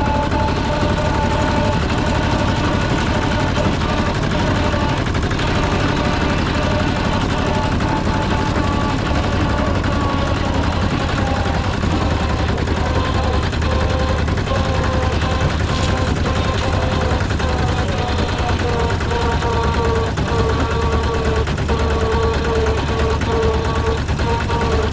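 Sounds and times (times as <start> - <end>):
combine harvester engine running: 0.0 - 24.9.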